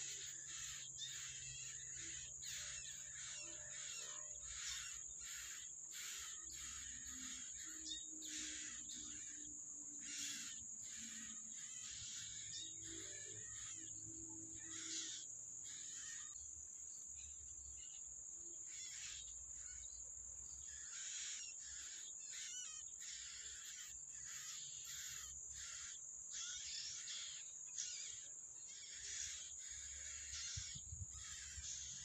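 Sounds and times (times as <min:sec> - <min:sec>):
nestlings begging with raspy calls: 0:00.0 - 0:16.4, 0:18.6 - 0:32.0.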